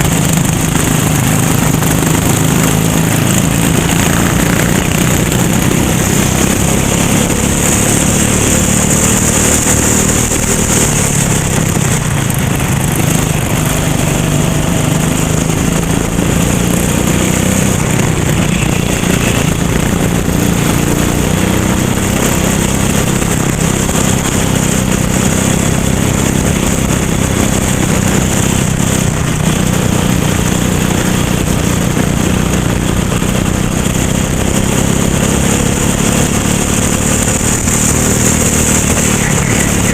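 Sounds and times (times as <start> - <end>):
go-kart engine droning: 0.0 - 39.9.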